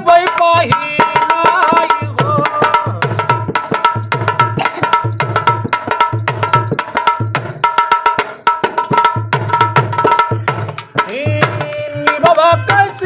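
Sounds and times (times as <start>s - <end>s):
hand drum fast rhythm: 0.0s - 13.0s.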